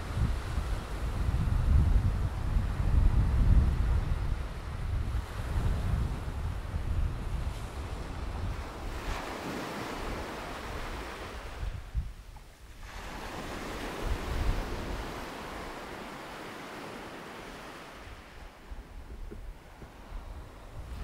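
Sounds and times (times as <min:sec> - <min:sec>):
small waves washing over sand: 0:00.0 - 0:21.0
wind buffeting microphone: 0:00.0 - 0:21.0.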